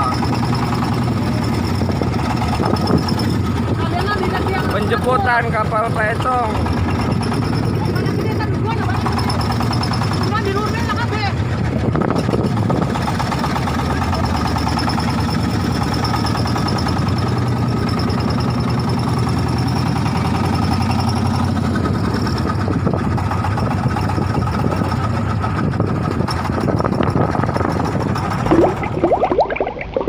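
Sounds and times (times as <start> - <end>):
boat engine chugging: 0.0 - 30.0.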